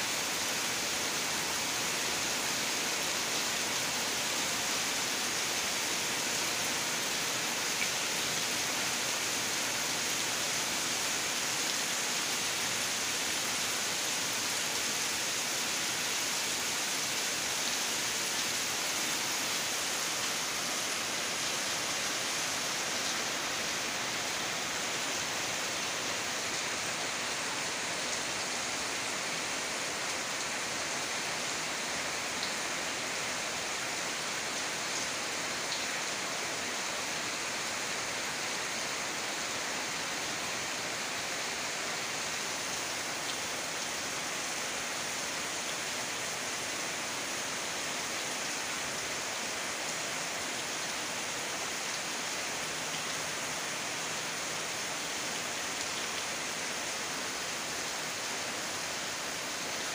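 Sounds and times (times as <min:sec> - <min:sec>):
heavy rain pouring: 0:00.1 - 0:59.9.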